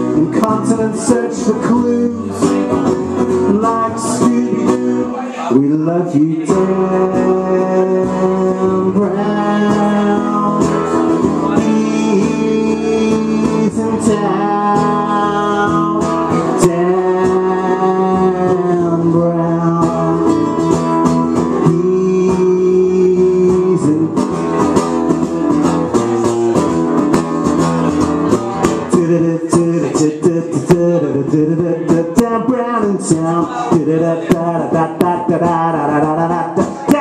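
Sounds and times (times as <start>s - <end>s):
guitar with sliding notes: 0.0s - 37.0s.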